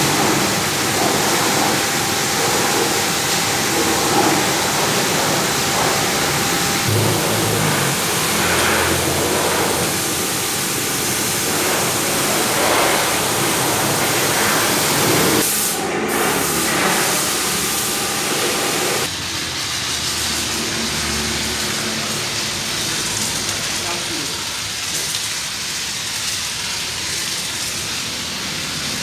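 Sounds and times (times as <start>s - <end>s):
water spraying onto a car: 0.0s - 29.0s.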